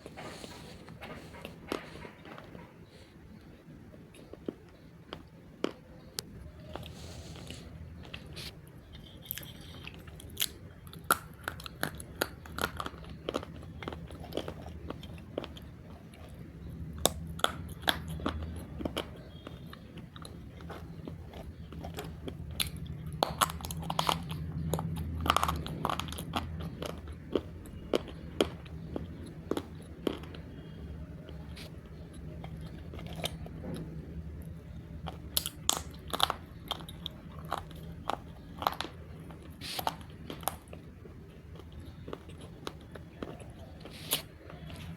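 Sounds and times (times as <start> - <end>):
clay being bitten and chewed: 3.4 - 44.9.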